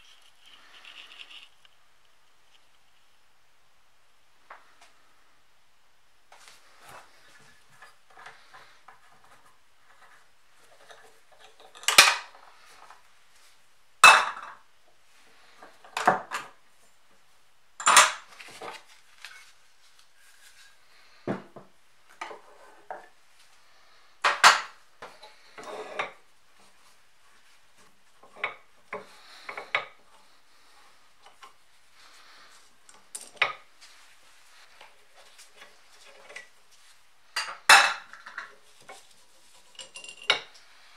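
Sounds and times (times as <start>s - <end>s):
scraping and handling noise: 0.0s - 3.3s, 6.3s - 14.6s, 17.8s - 40.9s.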